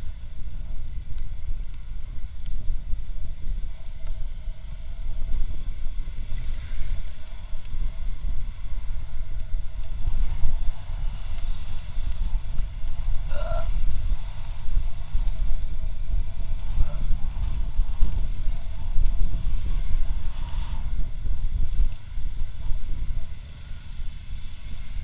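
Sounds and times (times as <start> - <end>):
motorcycle road noise: 0.0 - 25.0
wind buffeting microphone: 0.0 - 25.0.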